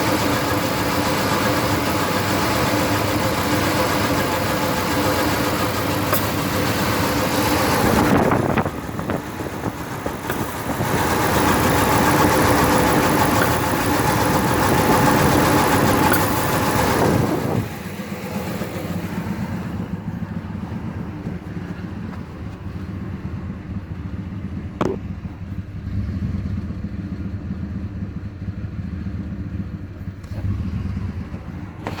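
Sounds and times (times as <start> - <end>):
engine idling roughly: 0.0 - 32.0.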